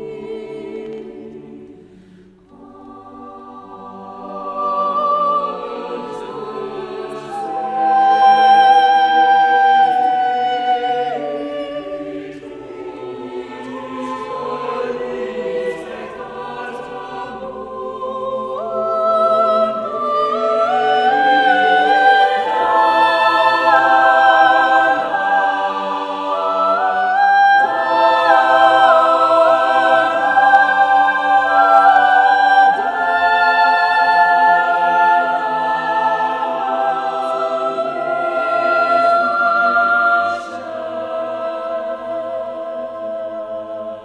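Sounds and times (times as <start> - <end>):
choir singing held chords: 0.0 - 44.0.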